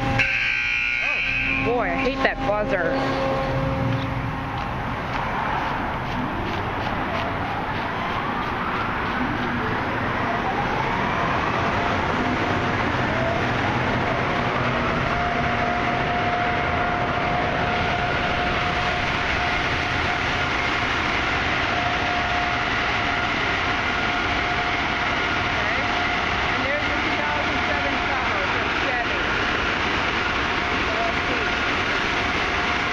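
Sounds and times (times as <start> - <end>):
car wash motors whining: 0.0 - 32.9
loud steady rushing noise: 0.0 - 32.9.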